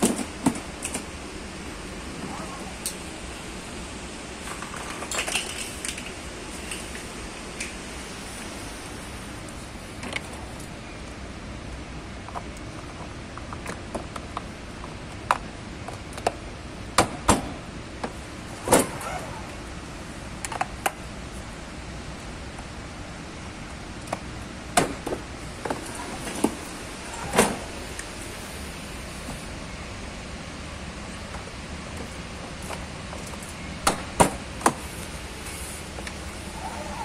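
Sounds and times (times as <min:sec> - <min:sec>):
background hiss: 0:00.0 - 0:12.2, 0:17.6 - 0:37.0.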